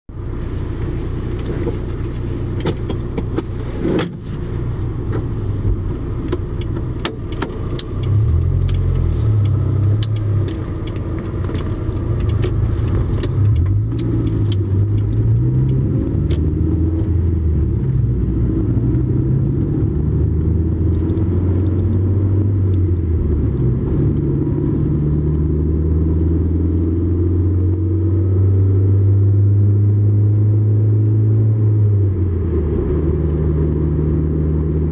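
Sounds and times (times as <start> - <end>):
car engine accelerating: 0.1 - 34.9
road noise: 0.1 - 34.9.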